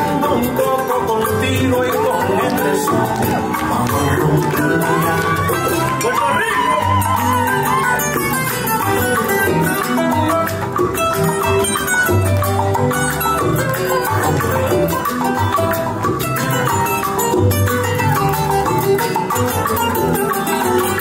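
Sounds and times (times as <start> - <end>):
instrumental salsa music: 0.0 - 21.0.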